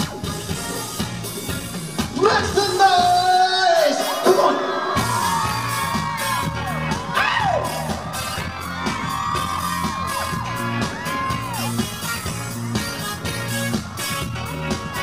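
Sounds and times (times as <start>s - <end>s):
live pop music: 0.0s - 15.0s
crowd screaming and whooping: 2.2s - 15.0s.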